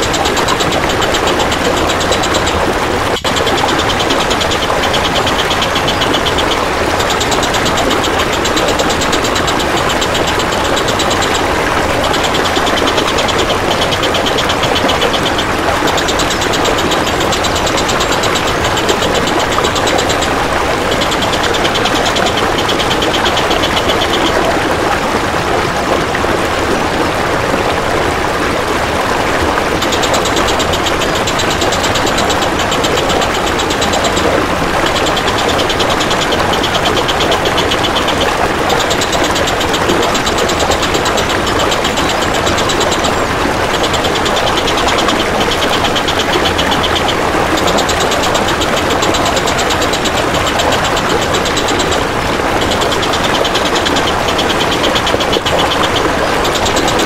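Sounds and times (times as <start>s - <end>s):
flowing water: 0.0s - 57.0s.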